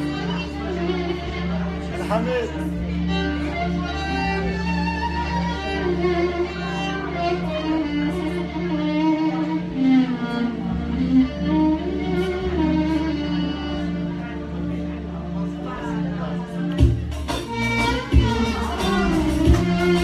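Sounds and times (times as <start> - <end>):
electronic keyboard accompaniment: 0.0 - 20.0
violin sliding melody: 0.0 - 20.0.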